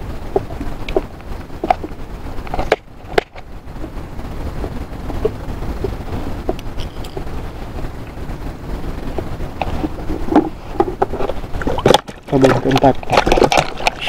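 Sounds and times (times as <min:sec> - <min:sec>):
low rumble of wind and water: 0:00.0 - 0:14.0.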